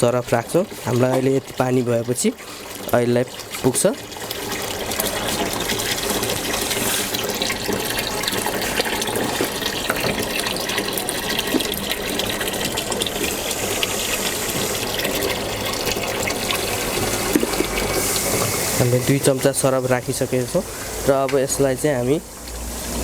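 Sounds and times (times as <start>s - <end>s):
water running into washing machine: 0.0s - 23.0s.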